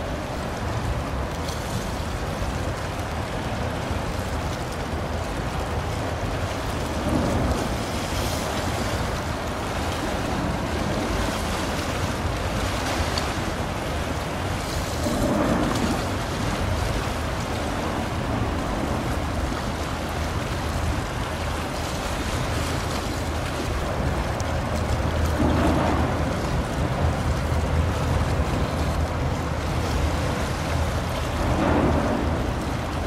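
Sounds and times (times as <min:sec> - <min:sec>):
bow wave and choppy water: 0:00.0 - 0:33.0
ship engine low rumble: 0:00.0 - 0:33.0
wind: 0:00.0 - 0:33.0.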